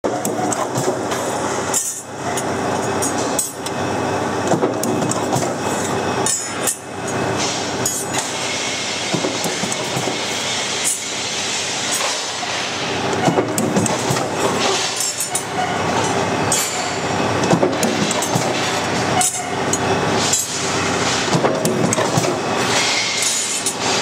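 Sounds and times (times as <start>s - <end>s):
metalworking machinery running: 0.0s - 24.0s.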